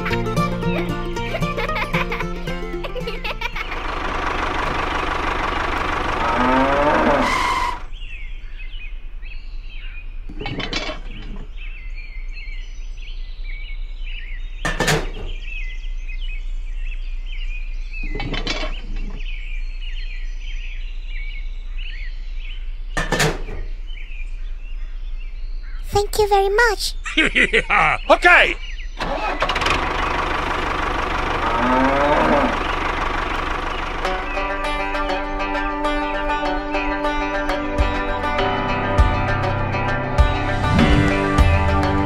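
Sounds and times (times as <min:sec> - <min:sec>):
birds chirping: 0:00.0 - 0:29.0, 0:29.9 - 0:42.0.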